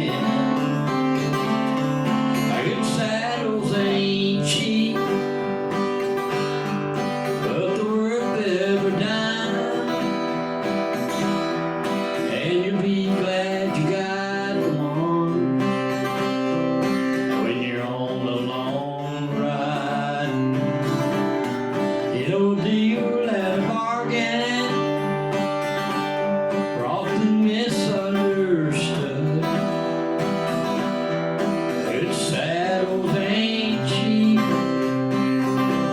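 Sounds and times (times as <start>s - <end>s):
acoustic guitar strumming: 0.0s - 35.9s
man singing: 0.0s - 35.9s.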